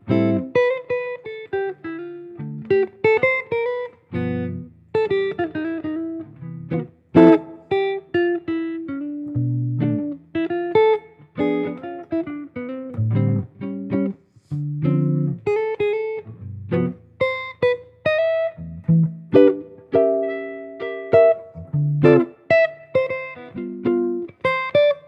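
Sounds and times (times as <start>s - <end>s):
solo jazz guitar: 0.0s - 25.0s.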